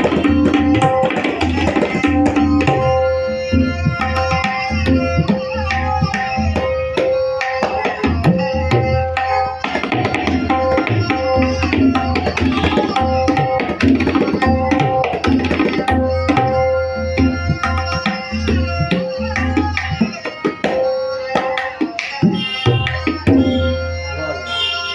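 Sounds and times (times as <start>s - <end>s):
tabla playing: 0.0s - 24.9s.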